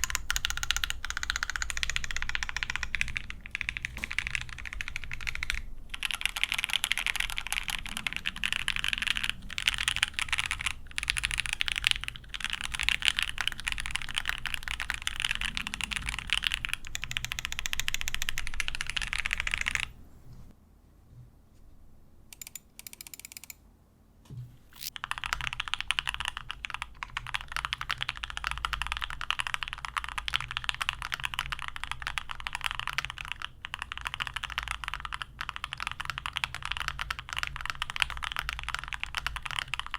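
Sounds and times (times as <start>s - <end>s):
mechanical keyboard typing: 0.0s - 19.9s, 22.3s - 23.6s, 24.8s - 39.9s.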